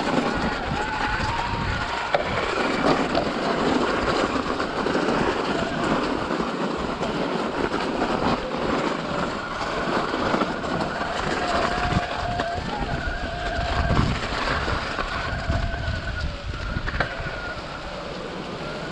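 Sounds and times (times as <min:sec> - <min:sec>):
bike tyres rolling over rough ground: 0:00.0 - 0:18.9.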